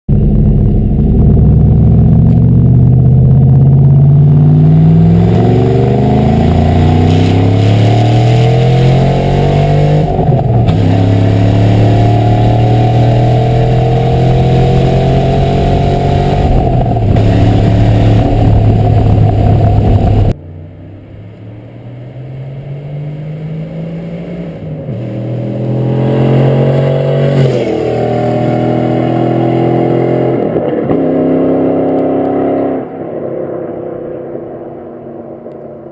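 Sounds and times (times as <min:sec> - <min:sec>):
car engine revving: 0:00.1 - 0:35.6.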